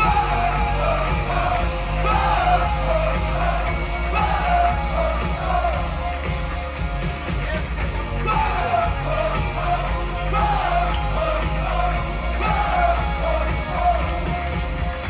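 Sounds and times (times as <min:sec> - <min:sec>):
heavy bass line: 0:00.0 - 0:15.0.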